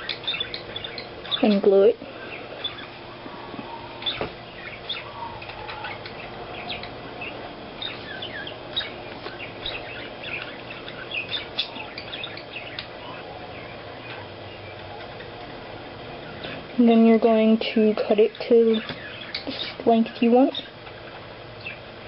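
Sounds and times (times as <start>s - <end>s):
small bird chirping: 0.0s - 15.5s, 16.2s - 21.9s.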